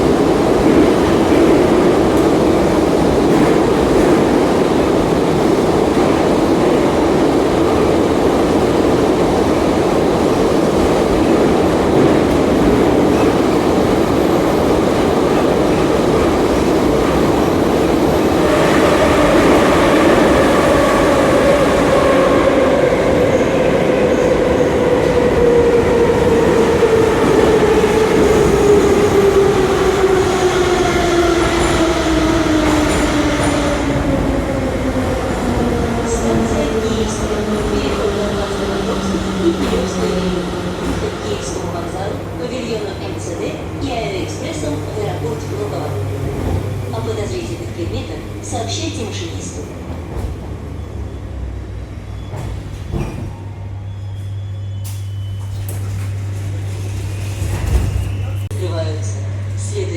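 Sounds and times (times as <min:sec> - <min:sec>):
rumble of wheels on rail: 0:00.0 - 0:59.9.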